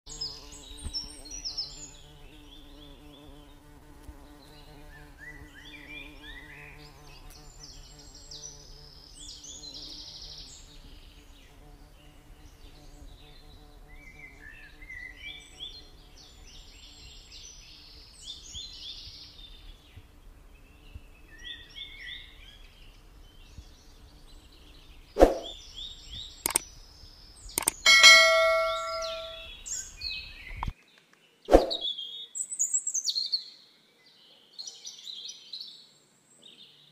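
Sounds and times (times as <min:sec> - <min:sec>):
small birds chirping: 0:00.1 - 0:36.9.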